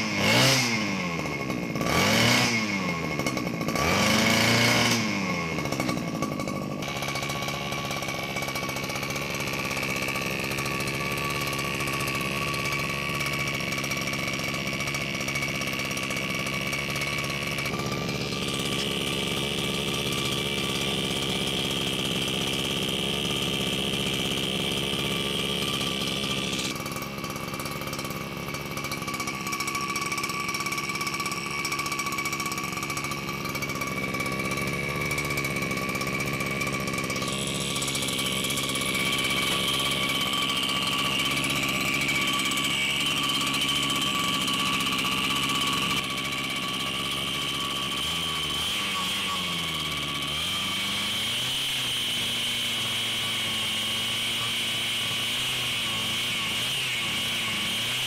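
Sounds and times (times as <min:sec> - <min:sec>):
small two-stroke engine running: 0:00.0 - 0:58.0.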